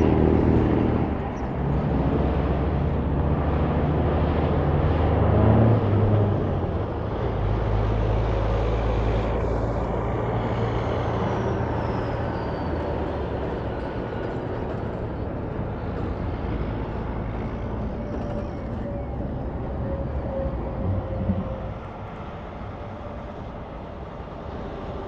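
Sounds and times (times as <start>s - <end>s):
tyre and road noise: 0.0s - 25.0s
vehicle engine drone: 0.0s - 25.0s.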